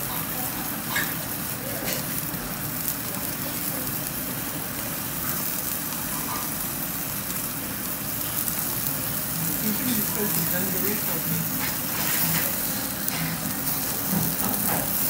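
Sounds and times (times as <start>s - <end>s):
beef sizzling on a grill: 0.0s - 15.0s
gas flame hissing: 0.0s - 15.0s.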